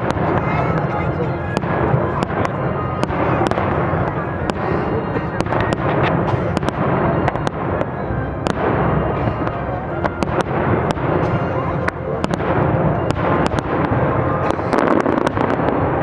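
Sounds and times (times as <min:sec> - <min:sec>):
fireworks bursts rumbling: 0:00.0 - 0:16.0
sharp crackling reports: 0:00.0 - 0:16.0.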